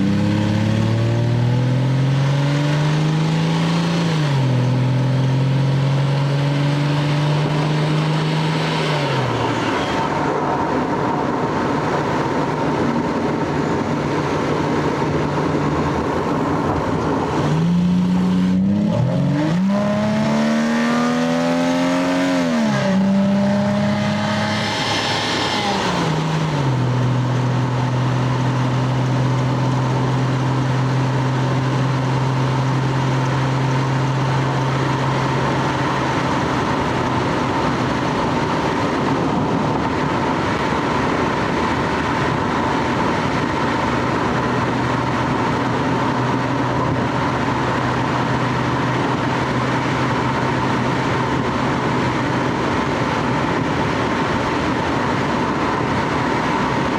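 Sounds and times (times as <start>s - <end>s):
car engine and exhaust: 0.0s - 56.9s.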